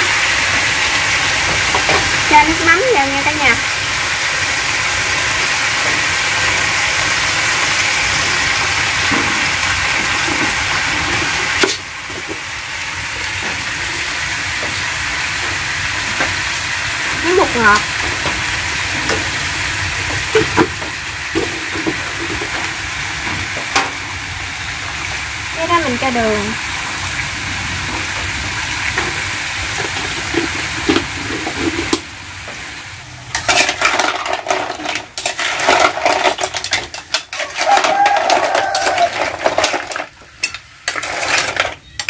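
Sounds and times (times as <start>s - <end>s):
shellfish sizzling in a wok: 0.0s - 42.0s.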